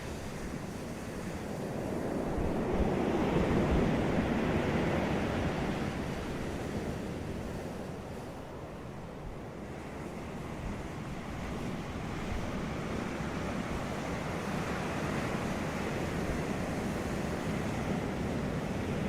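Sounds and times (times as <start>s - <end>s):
ocean waves breaking on beach: 0.0s - 19.0s
wind buffeting microphone: 0.0s - 19.0s.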